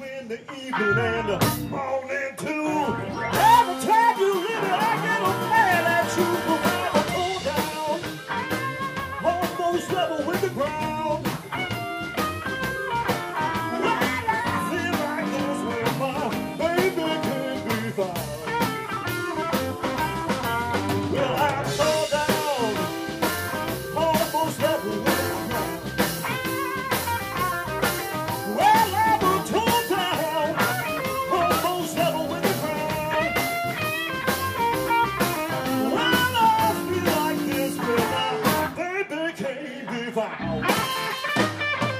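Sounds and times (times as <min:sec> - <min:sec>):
blues band playing: 0:00.3 - 0:41.9
bending electric guitar lead: 0:00.6 - 0:38.8, 0:40.0 - 0:41.9
drum kit: 0:01.0 - 0:01.8, 0:02.9 - 0:38.8, 0:40.4 - 0:41.9.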